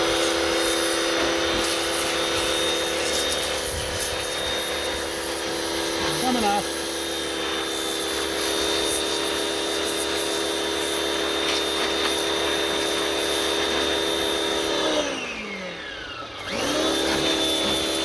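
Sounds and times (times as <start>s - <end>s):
hissing water spray: 0.0s - 14.8s
pressure washer motor whine: 0.0s - 18.0s.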